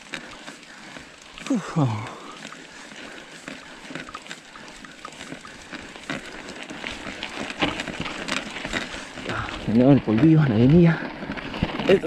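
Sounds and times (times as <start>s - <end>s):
bike tyres crunching on gravel: 0.0s - 12.0s.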